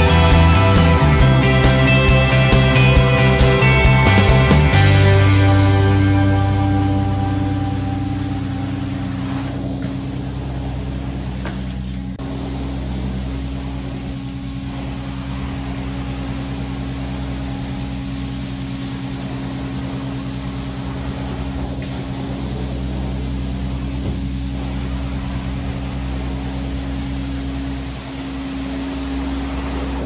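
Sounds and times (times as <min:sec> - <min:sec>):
carpet cleaner motor humming: 0:00.0 - 0:30.0
water spraying and sucking hiss: 0:00.0 - 0:30.0.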